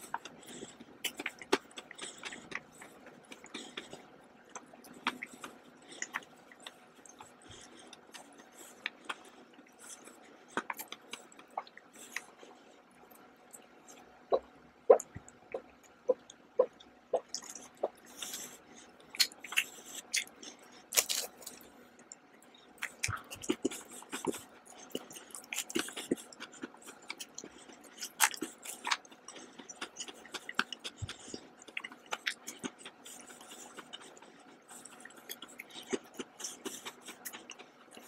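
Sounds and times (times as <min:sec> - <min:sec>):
wet chewing: 0:00.0 - 0:38.0.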